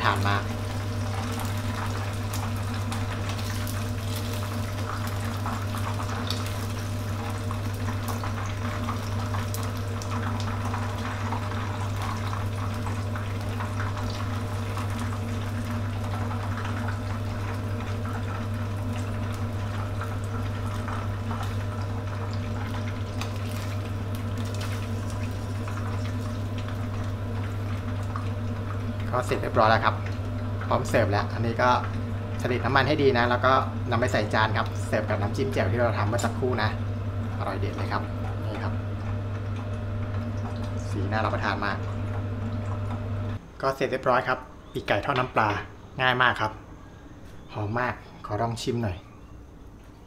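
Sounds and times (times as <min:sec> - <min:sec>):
frying oil bubbling and crackling: 0:00.0 - 0:43.4.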